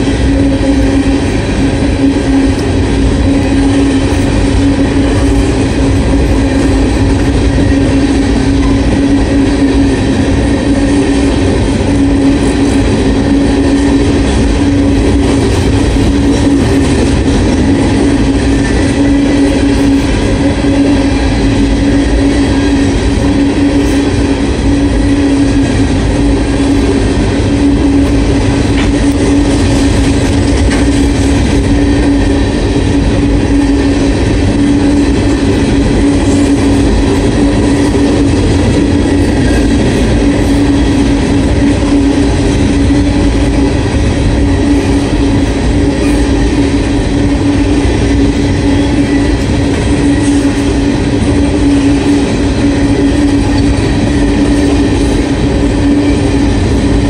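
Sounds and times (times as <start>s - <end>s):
low hum: 0.0s - 57.0s
steel wheels on rails: 0.0s - 57.0s.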